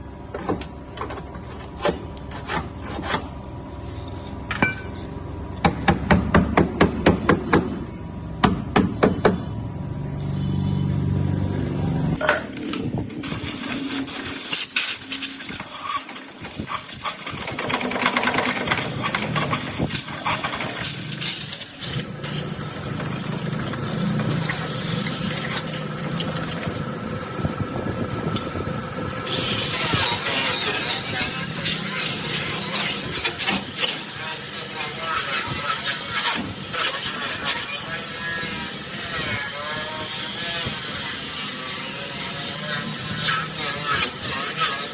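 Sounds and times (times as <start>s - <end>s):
workshop noise: 0.0s - 44.9s.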